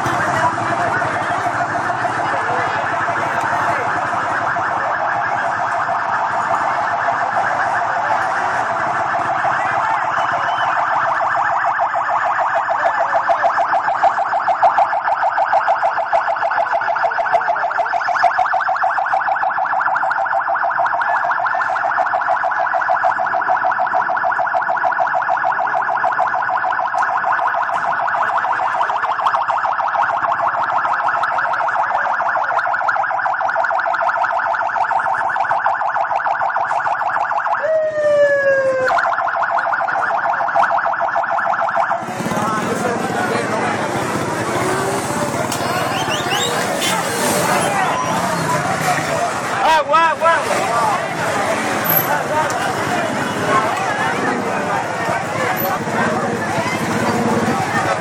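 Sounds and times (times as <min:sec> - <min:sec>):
pulsing alarm tone: 0:00.0 - 0:58.0.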